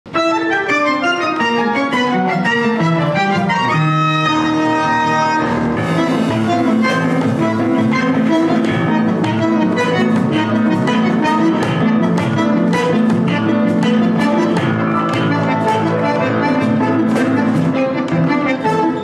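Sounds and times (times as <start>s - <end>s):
bandoneon: 0.1s - 19.0s
piano: 0.1s - 19.0s
violin: 0.1s - 19.0s
percussion: 1.3s - 19.0s.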